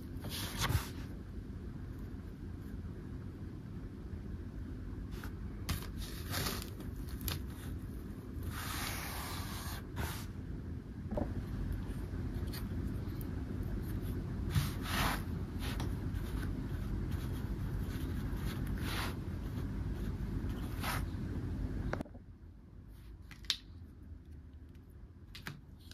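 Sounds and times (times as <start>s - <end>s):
steady low background hum: 0.0s - 25.9s.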